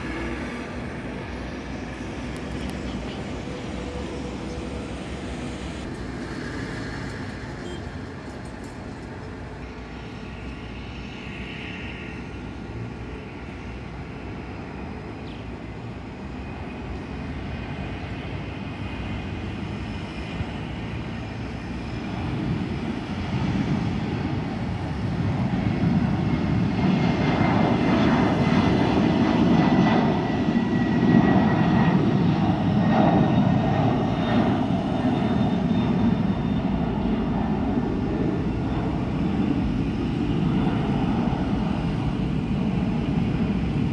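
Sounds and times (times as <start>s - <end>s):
jet engines at takeoff power: 0.0s - 43.9s.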